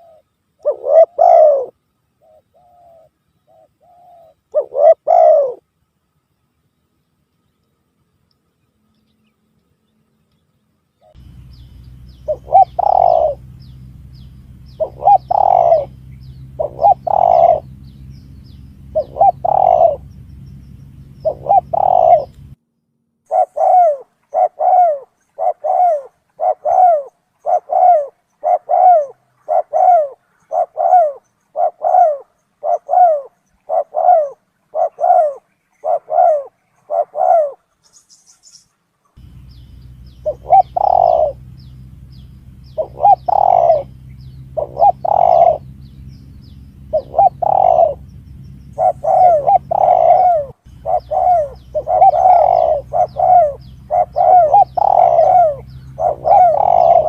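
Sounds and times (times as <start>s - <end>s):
dove cooing: 0.0s - 5.6s, 11.0s - 22.6s, 23.3s - 37.7s, 39.2s - 57.0s
steady low hum: 0.0s - 57.0s.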